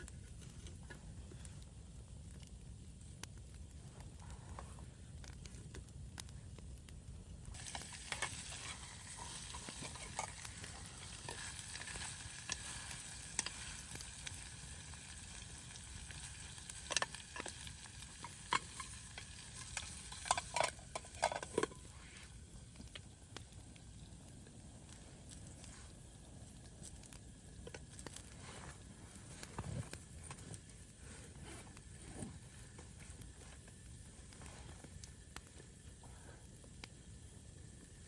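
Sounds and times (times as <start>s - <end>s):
sizzling hiss: 0.0s - 38.0s.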